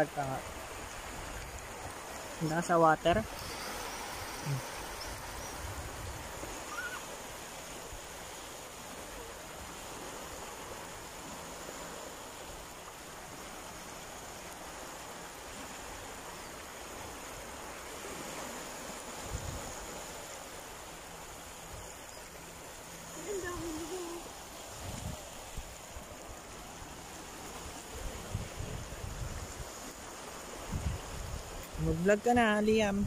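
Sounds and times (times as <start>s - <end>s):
surf waves hissing: 0.0s - 33.0s.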